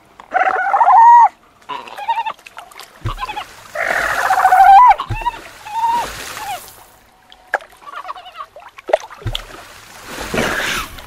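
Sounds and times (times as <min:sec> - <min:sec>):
water splashing and sloshing: 0:01.4 - 0:11.0.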